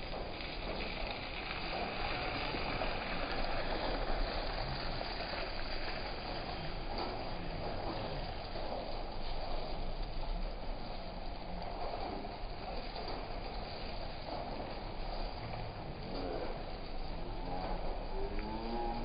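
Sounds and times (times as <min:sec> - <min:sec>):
rain hissing: 0:00.0 - 0:19.0
traffic on wet street: 0:00.0 - 0:19.0.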